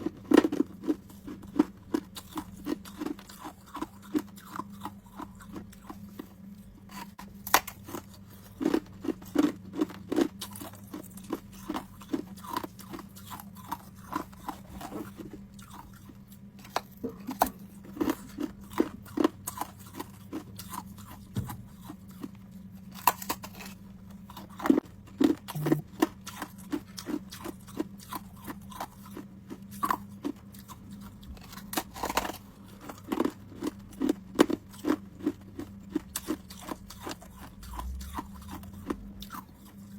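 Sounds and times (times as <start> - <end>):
person crunching ice cubes: 0.0 - 6.2, 6.9 - 22.3, 22.9 - 39.9
steady low hum: 0.0 - 39.9.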